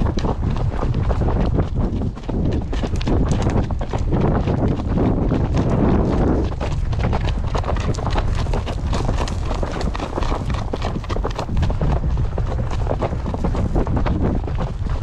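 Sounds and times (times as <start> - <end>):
horse hooves clip-clopping: 0.0 - 15.0
wind rumble on microphone: 0.0 - 15.0.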